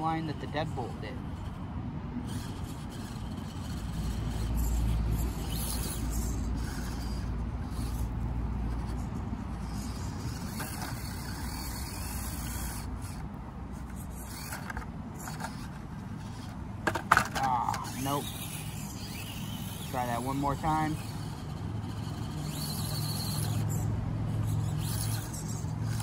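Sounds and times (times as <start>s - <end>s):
toy crawler motor whirring: 0.0s - 26.0s.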